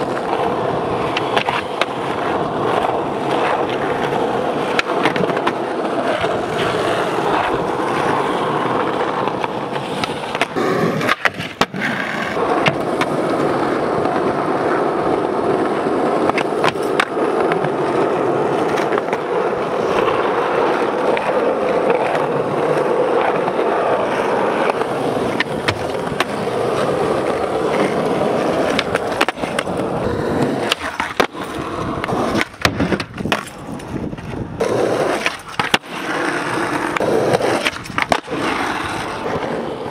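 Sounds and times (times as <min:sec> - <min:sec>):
skateboard popping and landing: 0:00.0 - 0:39.9
skateboard wheels rolling on asphalt: 0:00.0 - 0:39.9.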